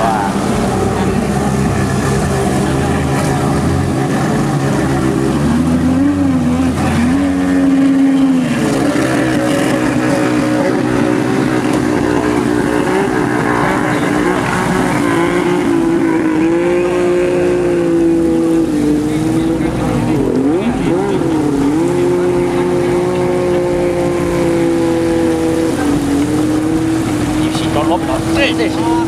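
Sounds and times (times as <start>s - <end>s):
jet ski engines running: 0.0s - 29.0s.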